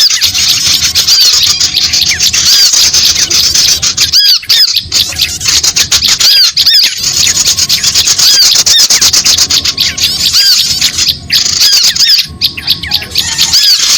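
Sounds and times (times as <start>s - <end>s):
birds chattering: 0.0s - 13.9s
high squeaky bird calls: 0.0s - 13.9s.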